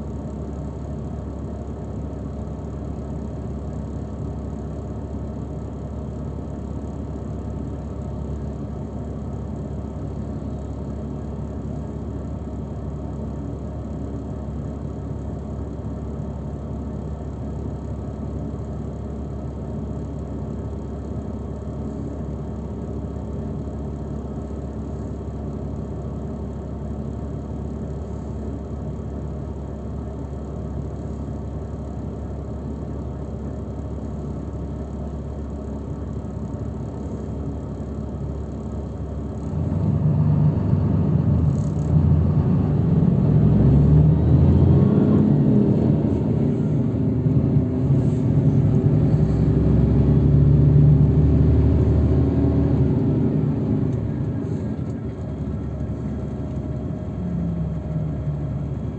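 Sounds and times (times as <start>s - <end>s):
vehicle engine and road rumble: 0.0s - 58.9s.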